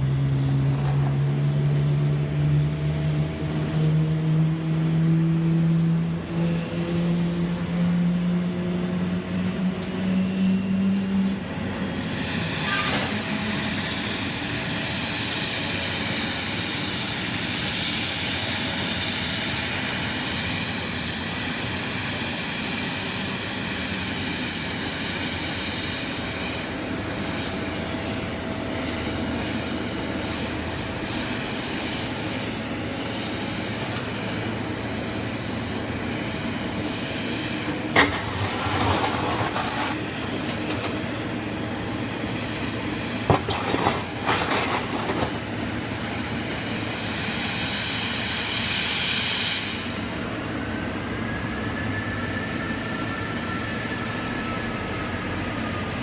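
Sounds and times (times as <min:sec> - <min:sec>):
jet engine rush and whine: 0:00.0 - 0:56.0.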